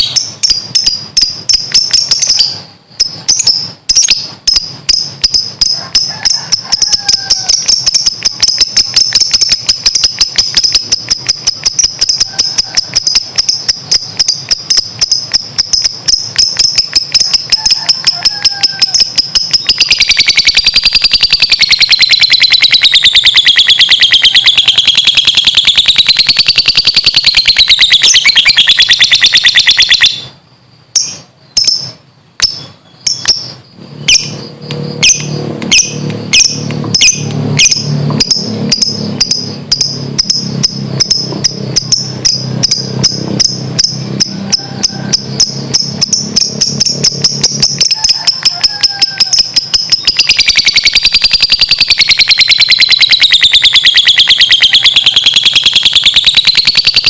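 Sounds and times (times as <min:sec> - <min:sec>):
lovebird chattering trill: 0:00.0 - 0:57.0.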